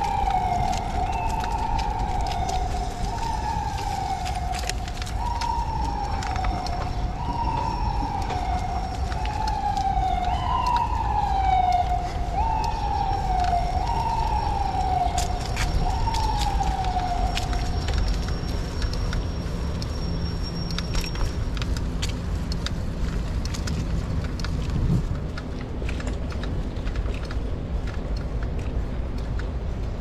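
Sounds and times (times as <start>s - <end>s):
emergency vehicle siren: 0.0s - 30.0s
low traffic rumble: 0.0s - 30.0s.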